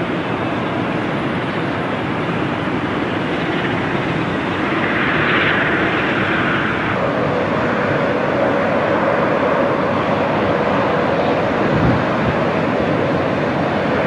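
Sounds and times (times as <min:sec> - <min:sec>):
engine whine: 0:00.0 - 0:14.0
jet engines rushing: 0:00.0 - 0:14.0.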